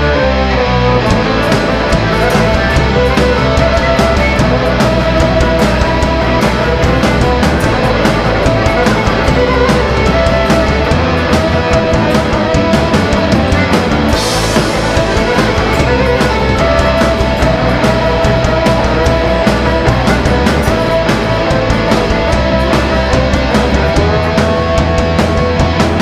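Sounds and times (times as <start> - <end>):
electric guitar: 0.0 - 26.0
fiddle: 0.0 - 26.0
drum kit beat: 1.0 - 26.0.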